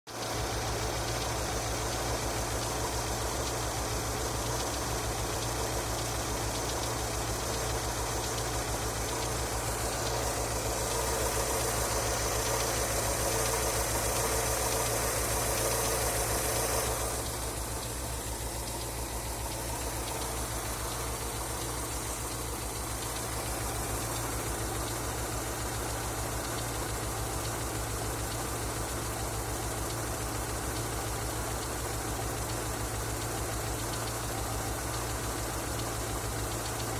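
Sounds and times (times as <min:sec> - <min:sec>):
engine idling with a knock: 0:00.1 - 0:36.9.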